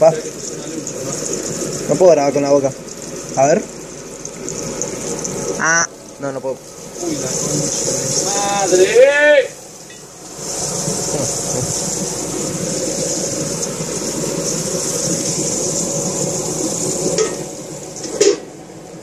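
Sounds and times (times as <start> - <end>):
food sizzling in a pan: 0.0 - 18.7.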